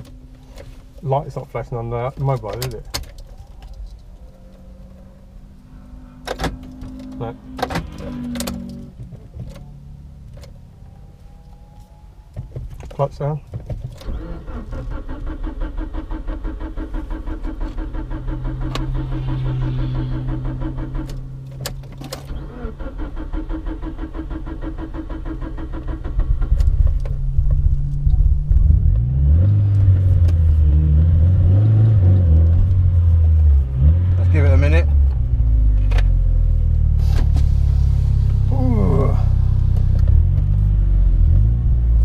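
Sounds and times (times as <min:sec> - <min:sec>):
car engine revving: 0:00.0 - 0:12.8, 0:14.0 - 0:42.0.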